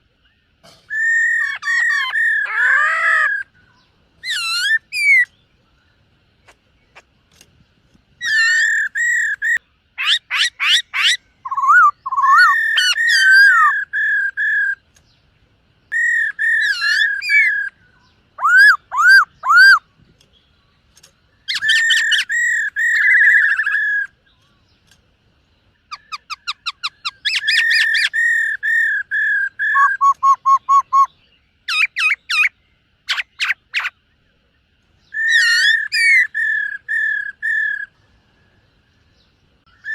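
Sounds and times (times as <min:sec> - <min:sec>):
bird singing whistled notes: 0:00.2 - 0:07.0, 0:08.2 - 0:25.0, 0:25.6 - 0:34.3, 0:35.0 - 0:39.9.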